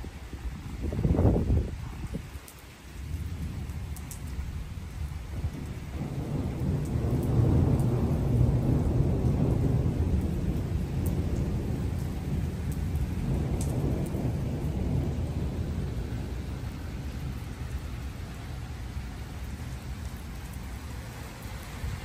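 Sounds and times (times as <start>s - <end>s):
rain on concrete roof: 0.0s - 22.0s
rolling thunder rumble: 3.0s - 22.0s.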